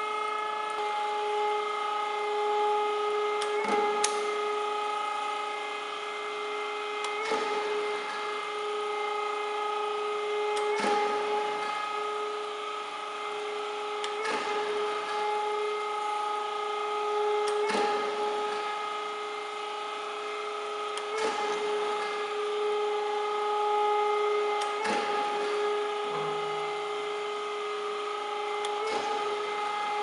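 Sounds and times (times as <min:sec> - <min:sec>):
grinder motor whine: 0:00.0 - 0:30.0.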